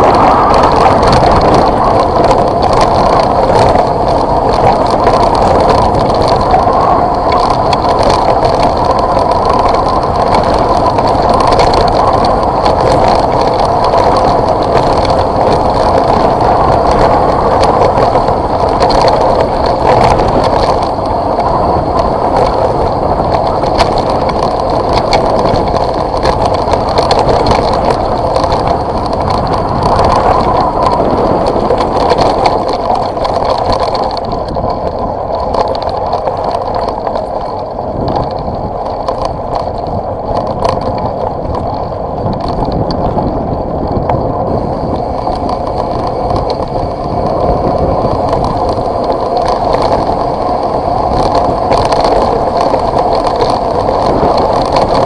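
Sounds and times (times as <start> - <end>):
small rattles and knocks: 0.0 - 55.0
tyres rolling on gravel: 0.0 - 55.0.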